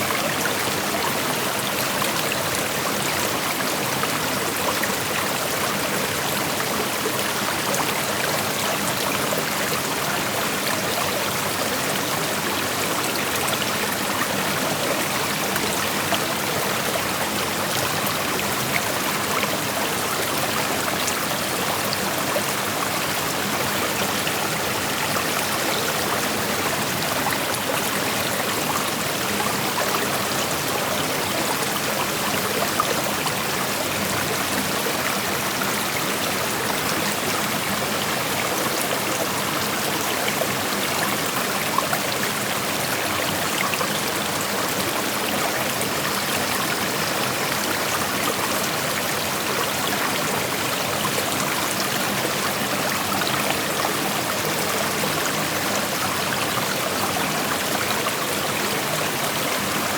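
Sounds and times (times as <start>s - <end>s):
creek water flowing over rocks: 0.0s - 59.9s.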